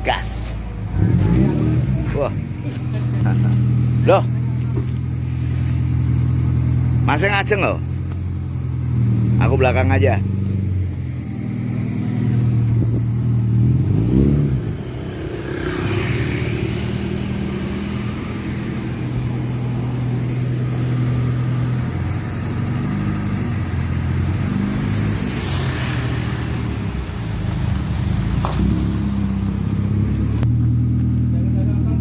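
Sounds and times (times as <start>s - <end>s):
car engine idling: 0.0s - 14.0s, 14.6s - 25.2s, 25.9s - 32.0s
engine revving: 0.8s - 32.0s.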